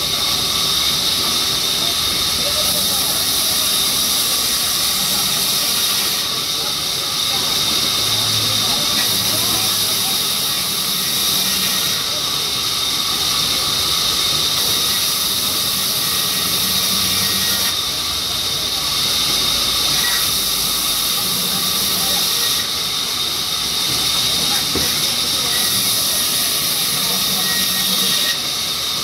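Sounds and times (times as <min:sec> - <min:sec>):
band saw cutting wood: 0:00.0 - 0:29.0.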